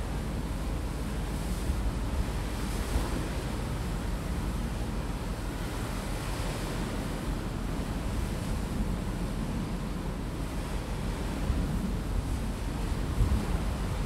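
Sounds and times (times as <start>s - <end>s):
rushing sea water: 0.0s - 14.0s
wind: 0.0s - 14.0s
wind on microphone: 0.1s - 14.0s.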